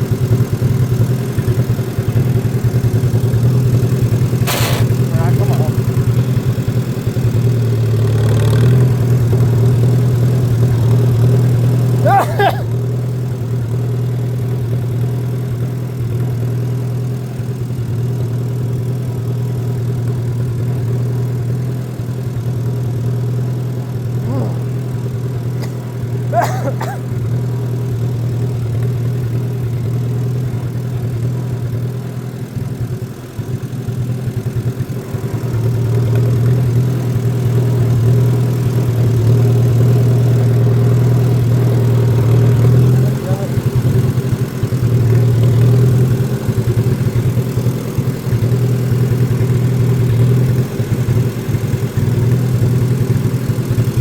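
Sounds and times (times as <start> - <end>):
tractor engine droning: 0.0 - 13.8, 23.4 - 54.0.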